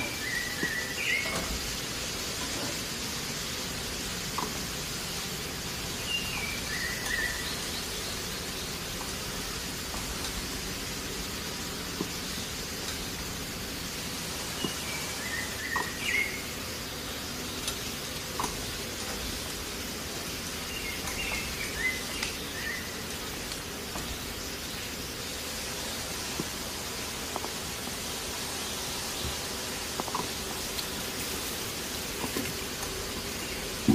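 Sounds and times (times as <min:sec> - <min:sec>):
hot oil sizzling in a pan: 0:00.0 - 0:33.9.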